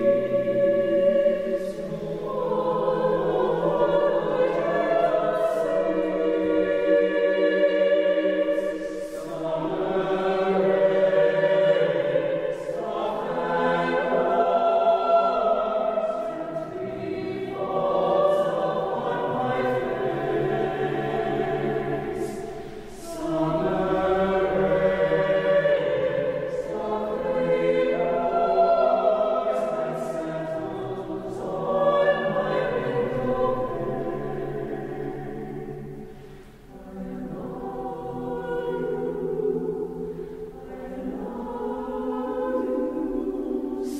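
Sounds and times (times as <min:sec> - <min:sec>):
choir singing sustained chords: 0:00.0 - 0:43.9.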